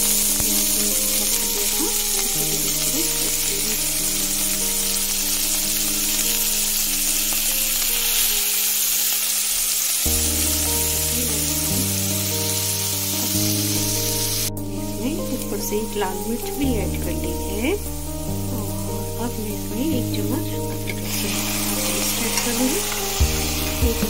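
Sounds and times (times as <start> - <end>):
onions sizzling in hot oil: 0.0 - 24.0
soft background music: 0.0 - 24.0.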